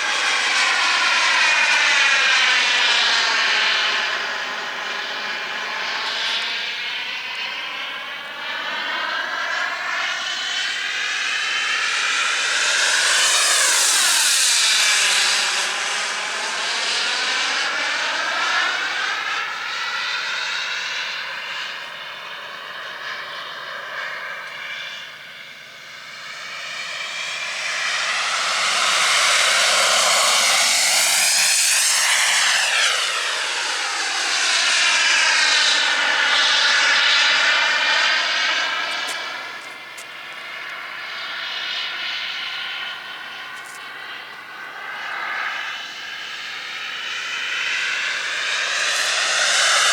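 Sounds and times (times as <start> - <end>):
model jet turbine whine: 0.0 - 49.9.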